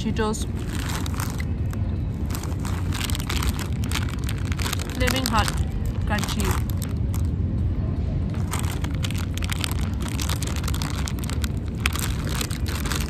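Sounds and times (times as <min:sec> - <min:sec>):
low rumble: 0:00.0 - 0:13.0
plastic snack bag crinkling: 0:00.4 - 0:07.3, 0:08.4 - 0:13.0.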